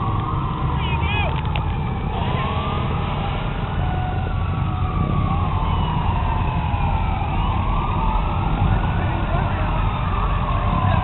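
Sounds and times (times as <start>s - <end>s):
fire truck sirens wailing: 0.0s - 11.0s.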